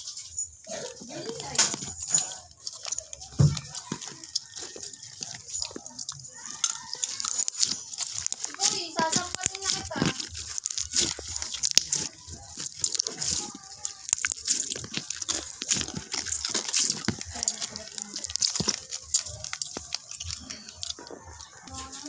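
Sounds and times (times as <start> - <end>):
slime squishing wet clicks: 0.0 - 22.0.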